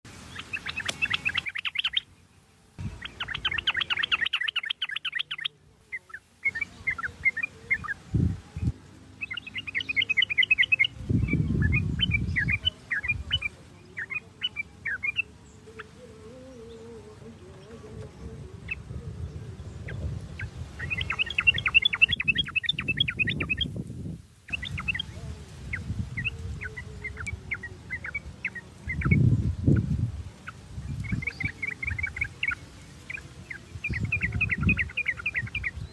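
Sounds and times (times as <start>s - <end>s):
bulbul singing trills and chirps: 0.1s - 35.9s.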